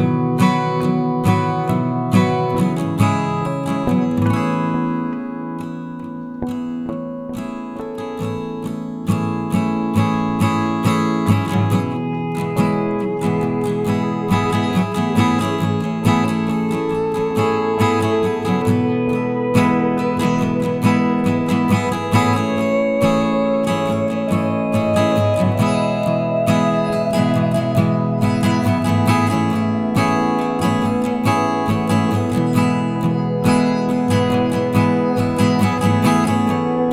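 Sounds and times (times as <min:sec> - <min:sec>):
acoustic guitar playing: 0:00.0 - 0:36.9.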